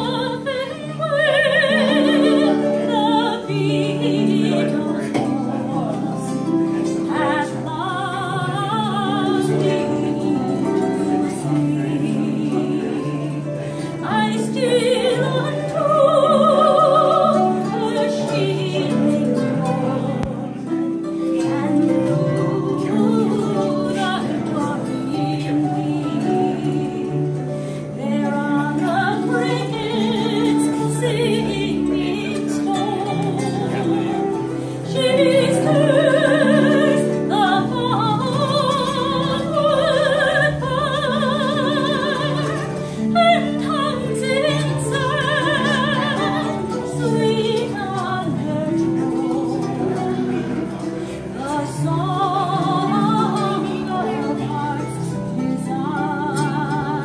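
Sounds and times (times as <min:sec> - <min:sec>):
plucked harp mandolin and guitar: 0:00.0 - 0:57.0
soprano singing with vibrato: 0:00.0 - 0:57.0.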